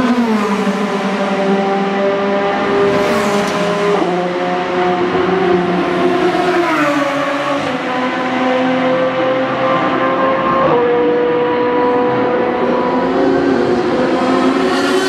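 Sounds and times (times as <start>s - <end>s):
race car engines at high revs: 0.0s - 15.0s.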